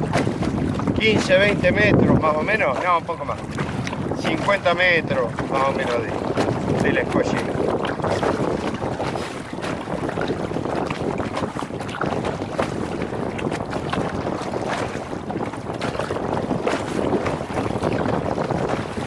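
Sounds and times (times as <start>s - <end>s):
paddle blades dipping in water: 0.0s - 19.0s
water splashing against hull: 0.0s - 19.0s
wind buffeting microphone: 0.0s - 19.0s.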